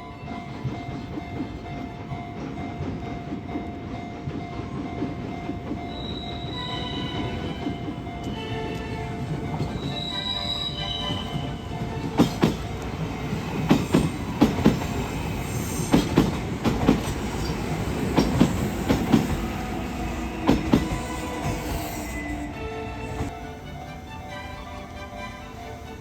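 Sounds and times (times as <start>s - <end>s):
train rumbling: 0.0s - 26.0s
train wheels clacking: 0.4s - 23.4s.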